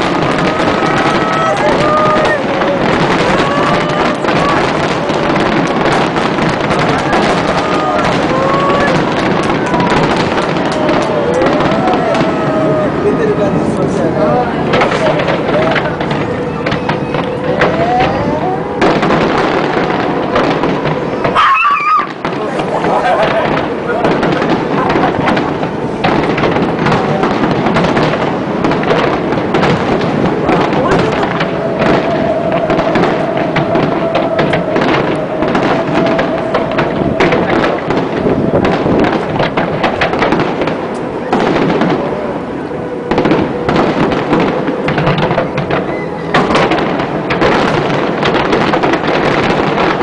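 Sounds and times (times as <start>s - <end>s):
fireworks bursting and crackling: 0.0s - 50.0s
rising firework whistle: 0.0s - 50.0s.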